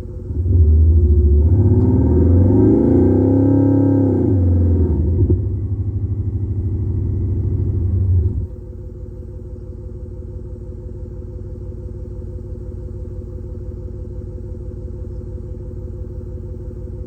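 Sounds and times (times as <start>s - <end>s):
electronic exhaust drone at idle: 0.0s - 17.0s.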